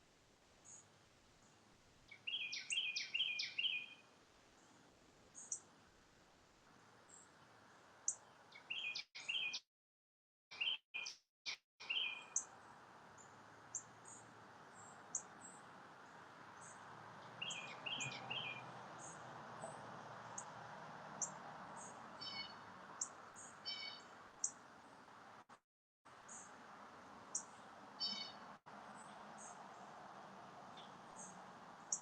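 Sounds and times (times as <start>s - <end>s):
small birds chirping: 0.6s - 5.8s, 7.0s - 9.6s, 10.5s - 11.2s, 11.8s - 25.1s, 26.2s - 26.6s, 27.2s - 32.0s.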